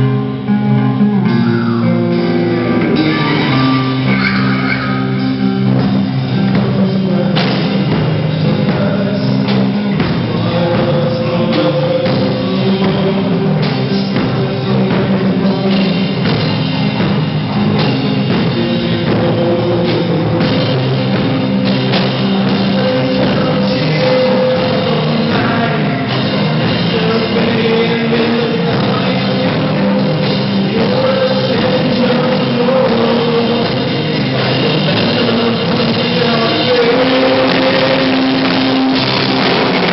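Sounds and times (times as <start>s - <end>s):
distorted electric guitars: 0.0s - 39.9s
person singing: 0.0s - 39.9s
rock band playing live: 0.0s - 39.9s.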